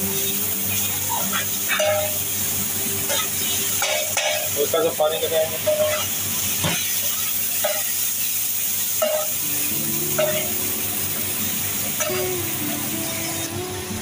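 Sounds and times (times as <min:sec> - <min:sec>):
masala sizzling and hissing: 0:00.0 - 0:14.0.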